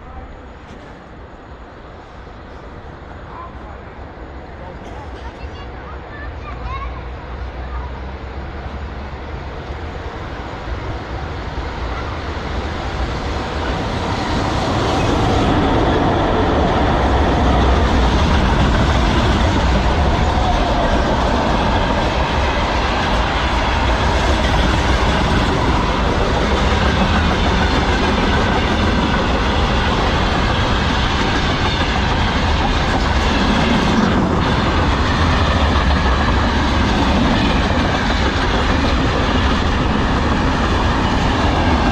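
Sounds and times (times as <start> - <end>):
freight train passing: 0.0 - 41.9.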